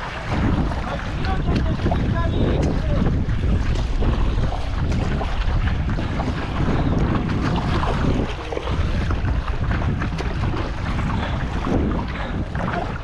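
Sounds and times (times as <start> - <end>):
water splashing and slapping: 0.0 - 13.0
wind buffeting microphone: 0.0 - 13.0.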